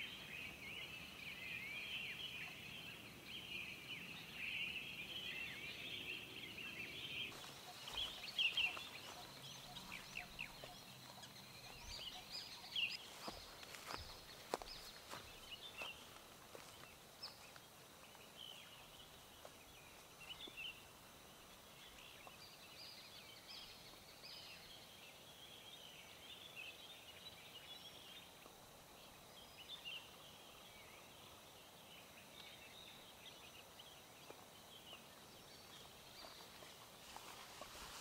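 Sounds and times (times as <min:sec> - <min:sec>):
faint birds chirping: 0:00.0 - 0:38.0
low steady outdoor hiss: 0:00.0 - 0:38.0.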